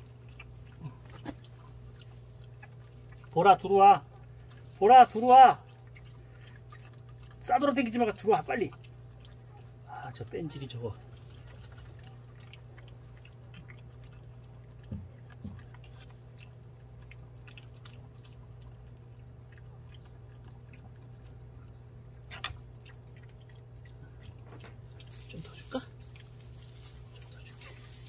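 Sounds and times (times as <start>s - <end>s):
dog chewing and licking: 0.0s - 28.0s
steady low hum: 0.0s - 28.0s.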